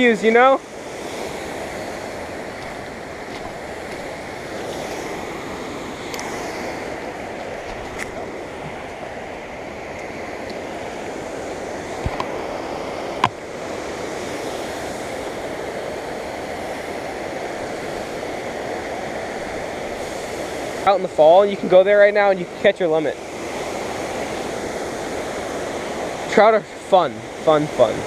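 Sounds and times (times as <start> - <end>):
flowing creek water: 0.0 - 28.0.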